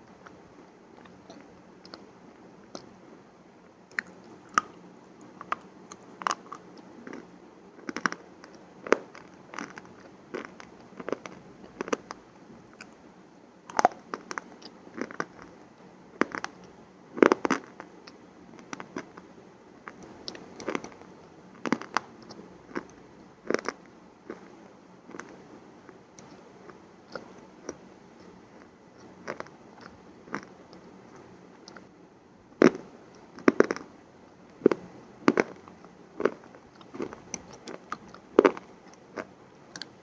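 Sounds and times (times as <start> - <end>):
crunchy food being chewed: 1.0 - 2.1, 3.9 - 13.0, 13.7 - 31.9, 32.6 - 40.0.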